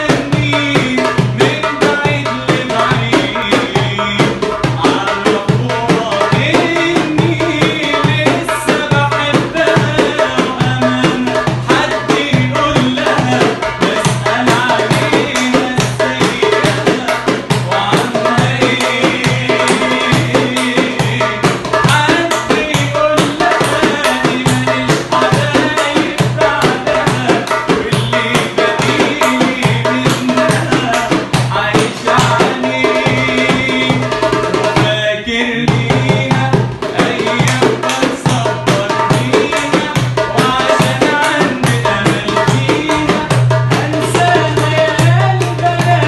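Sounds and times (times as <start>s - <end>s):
man singing pop song: 0.0s - 46.0s.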